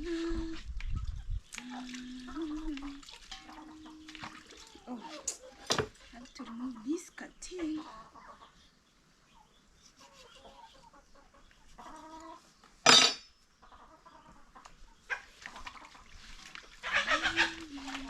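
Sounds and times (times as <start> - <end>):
chickens clucking: 0.9 - 12.7, 13.6 - 18.0.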